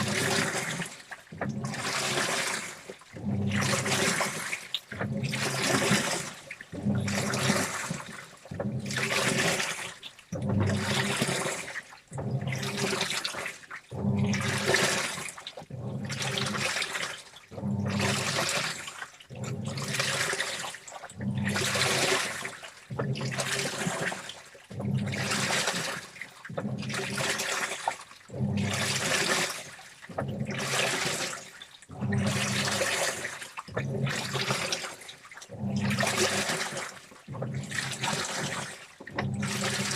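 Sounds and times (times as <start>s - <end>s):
washing machine motor humming: 0.0s - 39.9s
washing machine sloshing: 0.0s - 39.9s.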